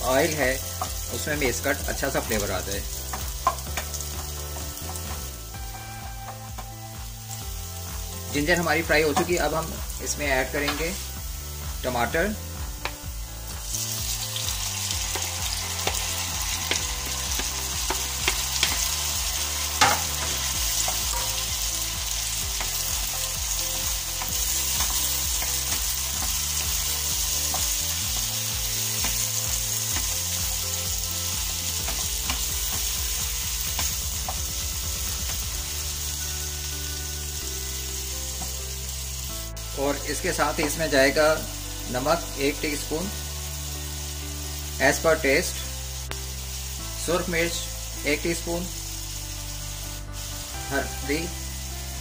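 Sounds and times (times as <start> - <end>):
tomatoes sizzling in hot oil: 0.0 - 52.0.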